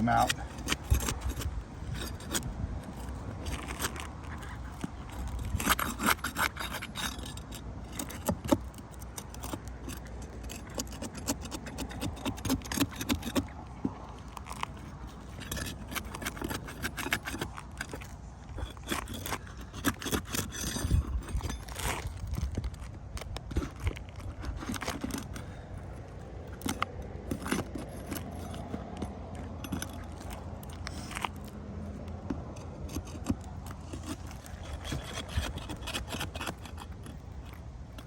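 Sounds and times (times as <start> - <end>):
metal tool scraping and clicking: 0.1 - 38.0.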